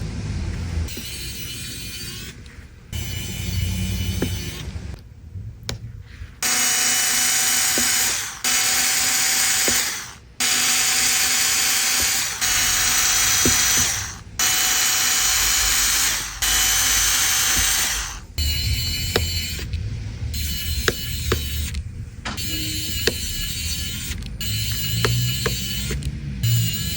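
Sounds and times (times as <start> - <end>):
small power tool whirring: 0.0 - 5.0, 6.4 - 26.9.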